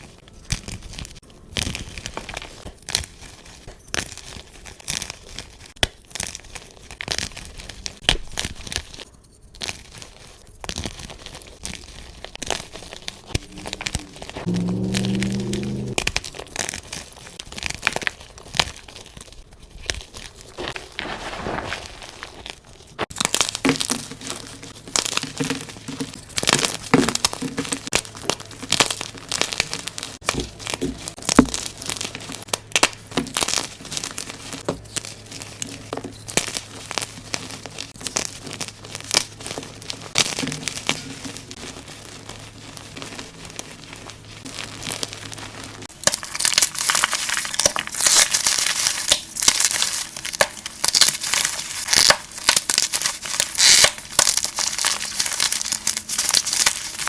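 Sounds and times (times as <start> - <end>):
chalk crunching and crackling: 0.0 - 57.0.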